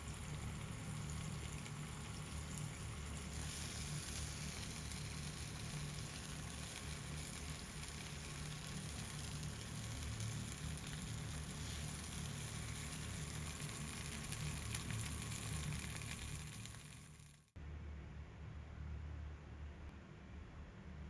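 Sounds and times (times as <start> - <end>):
food sizzling in hot oil: 0.0 - 17.6.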